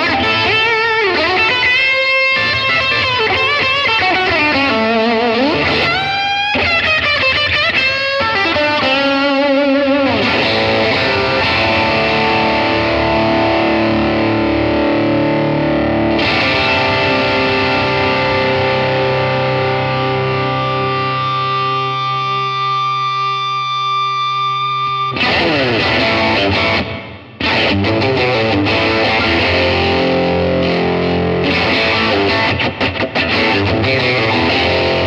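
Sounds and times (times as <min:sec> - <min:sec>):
overdriven electric guitar: 0:00.0 - 0:35.0.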